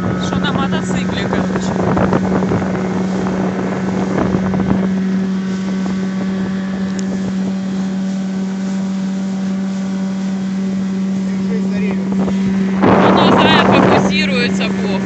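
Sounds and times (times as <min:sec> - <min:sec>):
outboard motor running: 0:00.0 - 0:15.0
water splashing: 0:00.0 - 0:15.0
wind on microphone: 0:00.0 - 0:15.0.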